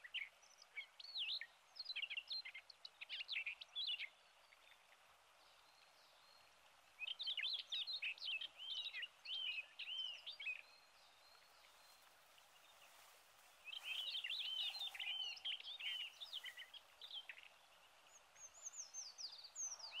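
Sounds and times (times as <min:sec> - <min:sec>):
faint hiss: 0:00.0 - 0:20.0
songbird singing: 0:00.0 - 0:20.0.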